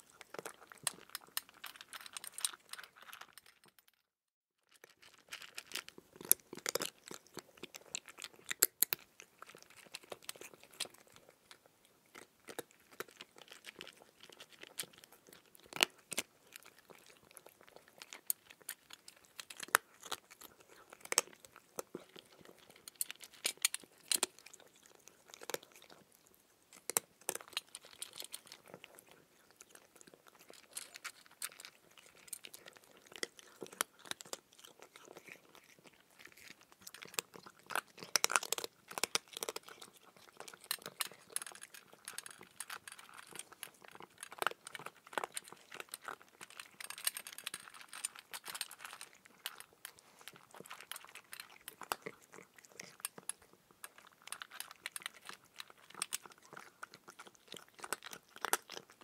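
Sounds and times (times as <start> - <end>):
person chewing cucumber: 4.8 - 59.0.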